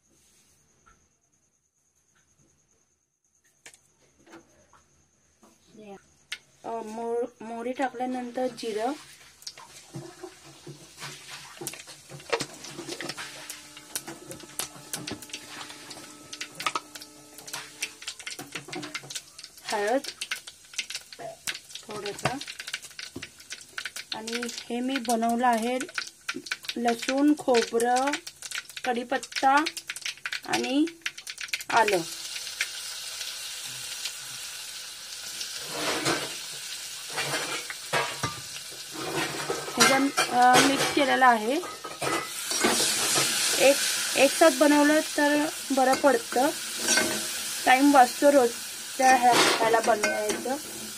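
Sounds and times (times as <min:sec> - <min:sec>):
seeds sizzling in hot oil: 0:05.8 - 0:50.9
sharp crackles and pops: 0:08.2 - 0:50.9.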